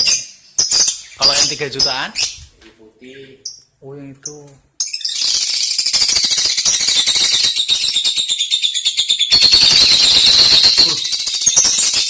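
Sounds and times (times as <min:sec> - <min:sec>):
lovebirds chattering: 0:00.0 - 0:12.0.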